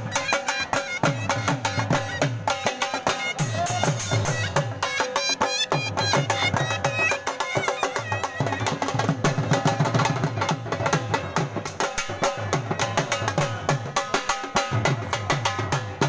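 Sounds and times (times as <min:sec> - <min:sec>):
fast drumming: 0:00.0 - 0:16.0.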